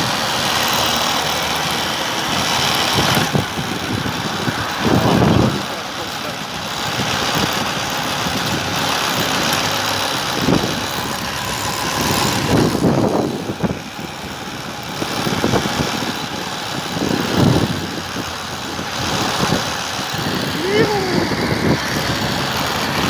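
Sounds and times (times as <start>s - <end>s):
road noise: 0.0s - 23.0s
rushing wind: 1.5s - 23.0s.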